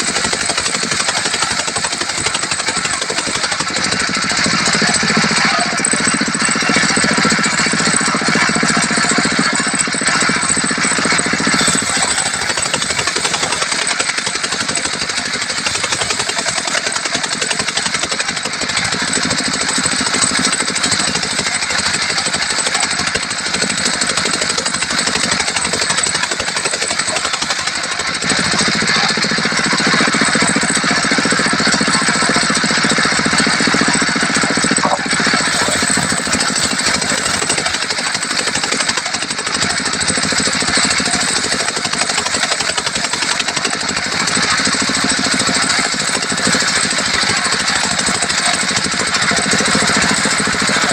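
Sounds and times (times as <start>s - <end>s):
circular sawmill cutting log: 0.0s - 50.9s
diesel engine running: 0.0s - 50.9s.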